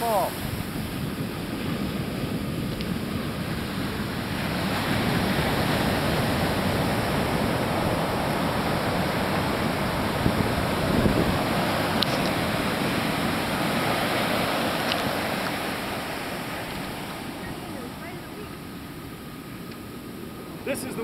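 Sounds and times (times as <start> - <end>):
ocean surf on sandy beach: 0.0 - 21.0.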